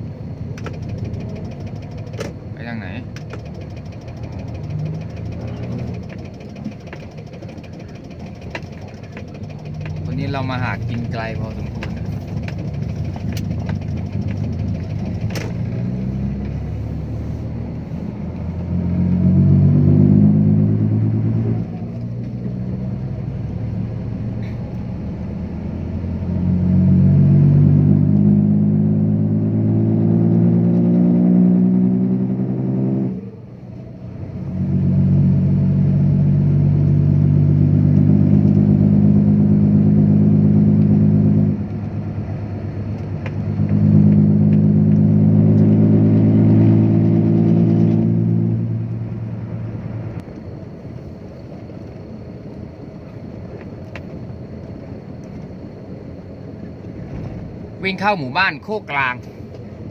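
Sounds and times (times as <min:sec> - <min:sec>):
truck diesel engine accelerating: 0:00.0 - 0:59.9.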